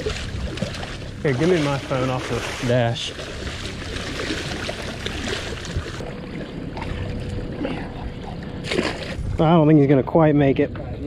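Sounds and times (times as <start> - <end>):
water rushing and trickling: 0.0 - 9.8
faint steady hum: 0.0 - 11.0.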